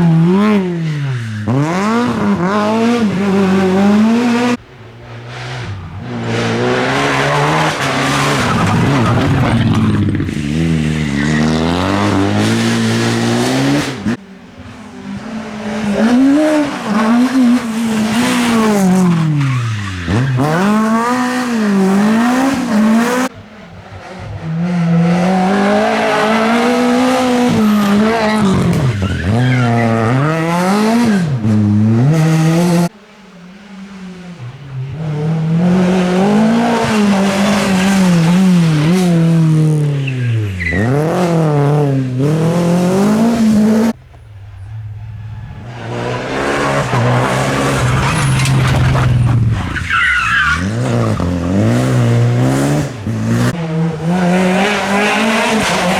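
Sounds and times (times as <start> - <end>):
rally car engines at full throttle: 0.0 - 55.9.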